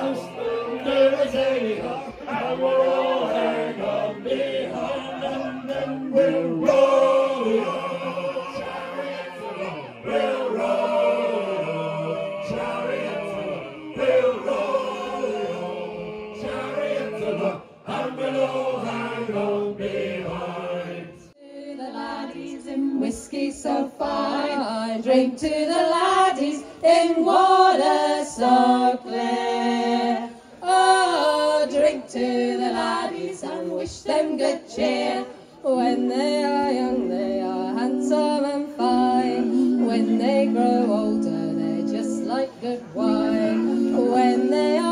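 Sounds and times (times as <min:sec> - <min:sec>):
group singing: 0:00.0 - 0:44.9.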